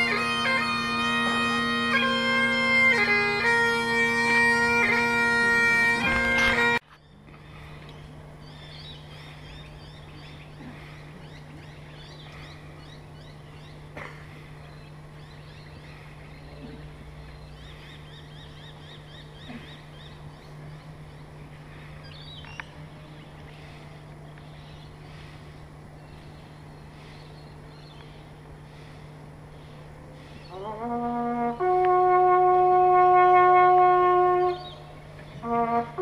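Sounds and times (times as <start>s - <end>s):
birds chirping: 0.0s - 32.2s, 34.1s - 36.0s
steady low hum: 0.0s - 36.0s.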